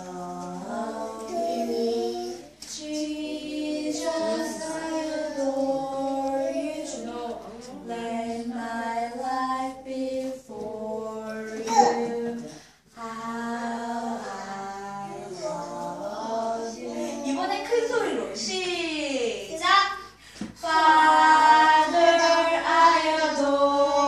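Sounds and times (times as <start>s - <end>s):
children and woman singing: 0.0s - 24.0s.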